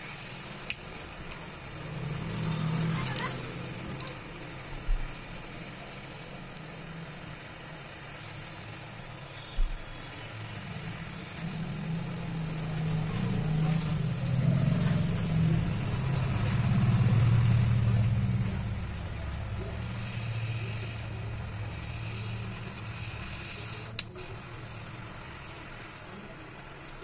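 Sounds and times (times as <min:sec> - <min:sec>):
hot-air station blowing: 0:00.0 - 0:27.0
low engine-like rumble: 0:00.0 - 0:27.0.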